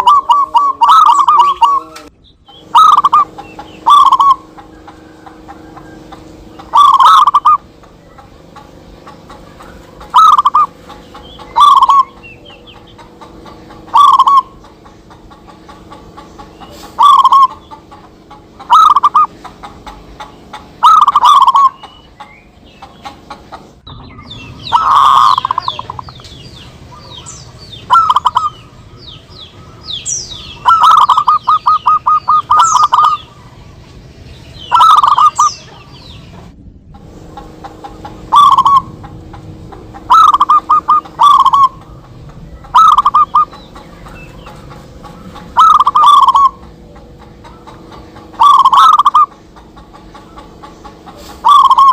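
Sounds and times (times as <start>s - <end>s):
doves cooing: 0.0s - 51.9s
small birds chirping: 0.0s - 51.9s.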